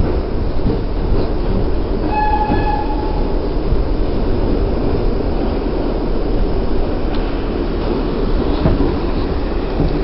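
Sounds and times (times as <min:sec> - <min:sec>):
subway wheels rumbling on rails: 0:00.0 - 0:10.0.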